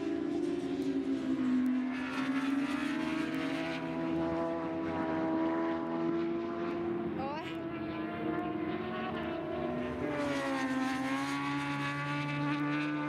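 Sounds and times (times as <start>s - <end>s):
motorbike engine at high revs: 0.0s - 13.0s.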